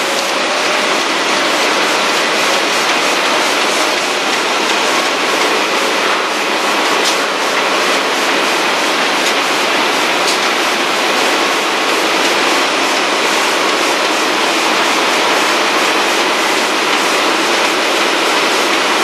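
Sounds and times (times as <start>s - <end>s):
printing press running: 0.0s - 19.0s.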